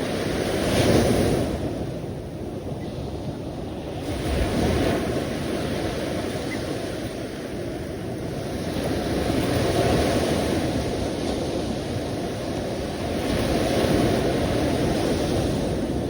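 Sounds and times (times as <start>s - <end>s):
sea waves breaking: 0.0s - 16.0s.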